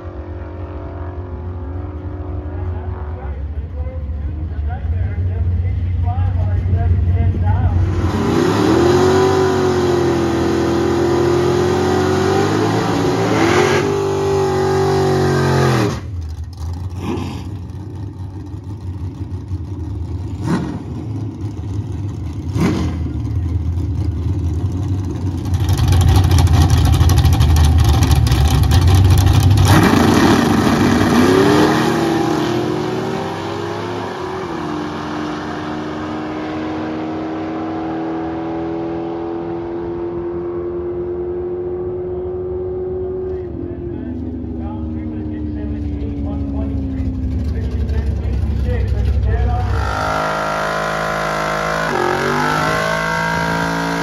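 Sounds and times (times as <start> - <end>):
drag racing car engines revving: 0.0 - 54.0.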